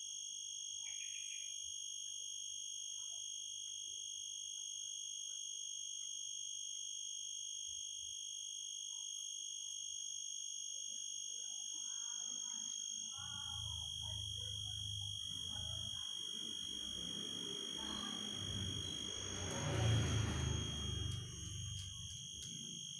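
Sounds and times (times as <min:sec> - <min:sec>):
high-pitched ringing tone: 0:00.0 - 0:22.9.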